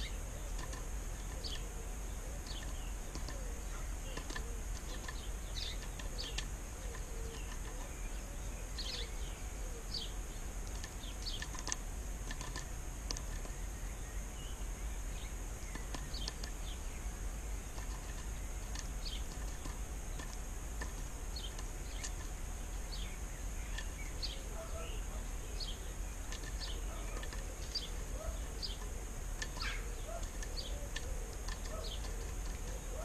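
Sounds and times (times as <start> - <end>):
small birds chirping: 0.0 - 33.0
steady high hiss: 0.0 - 33.0.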